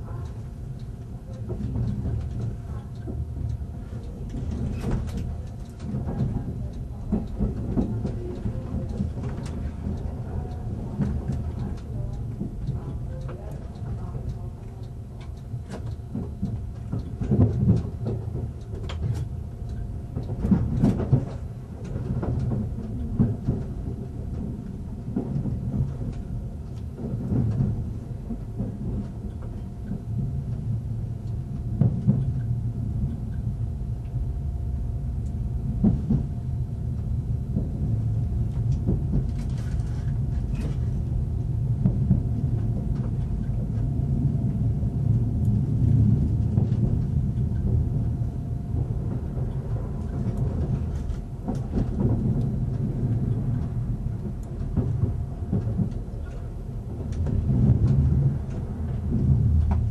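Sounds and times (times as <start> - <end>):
train rumbling over rails: 0.0 - 59.9.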